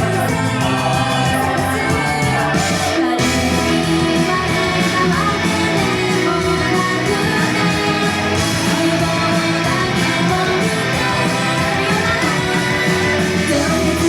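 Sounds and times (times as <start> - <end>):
person singing: 0.0 - 14.0
pop-rock song with electric guitar: 0.0 - 14.0.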